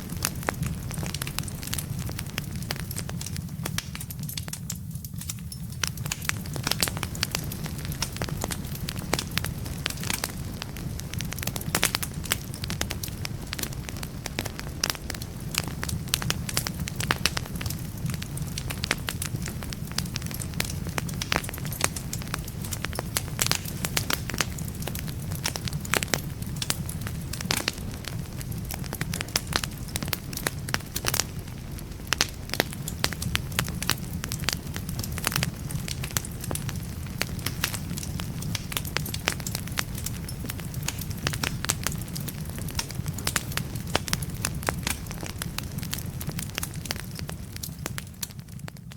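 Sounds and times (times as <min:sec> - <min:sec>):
low fire rumble: 0:00.0 - 0:48.9
wood fire crackling and popping: 0:00.0 - 0:48.9.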